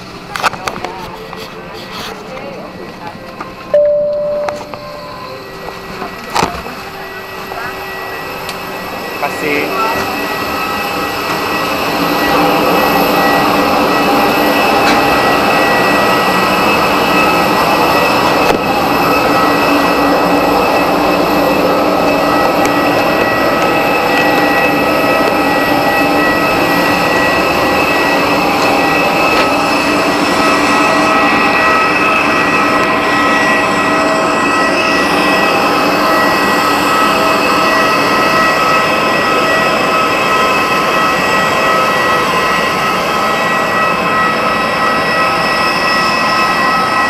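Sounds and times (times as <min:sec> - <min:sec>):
high steady whine: 0:00.0 - 0:47.0
jet turbine rushing: 0:04.7 - 0:47.0.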